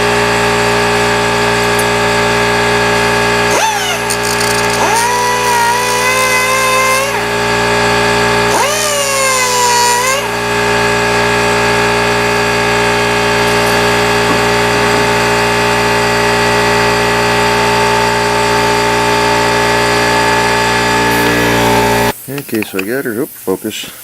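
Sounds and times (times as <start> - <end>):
die grinder high whine: 0.0 - 22.2.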